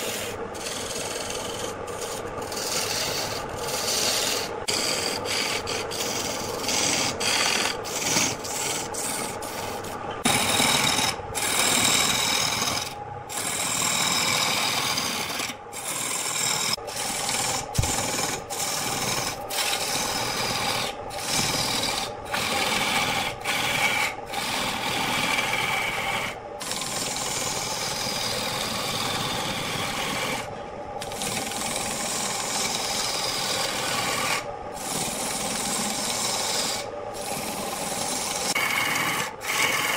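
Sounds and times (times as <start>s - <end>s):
chisel scraping spinning wood: 0.0s - 39.9s.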